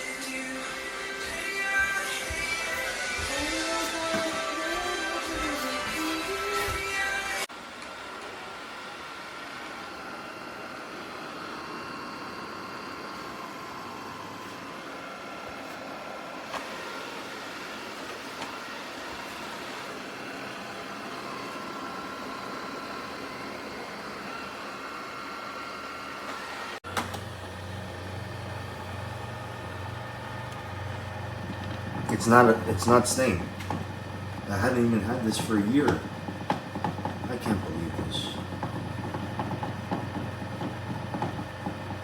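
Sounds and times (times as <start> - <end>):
robot vacuum motor whine: 0.0 - 42.0.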